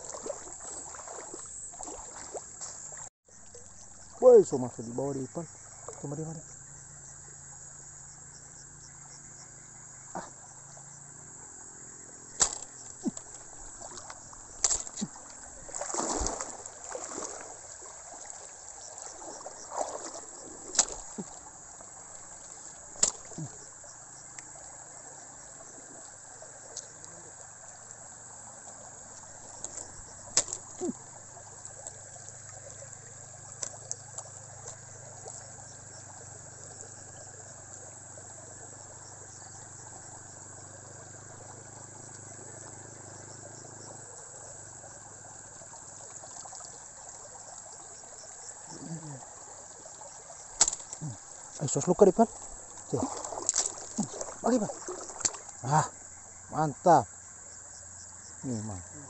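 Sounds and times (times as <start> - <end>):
water splashing in river: 0.0 - 6.4, 9.9 - 59.0
crickets chirring: 0.0 - 59.0.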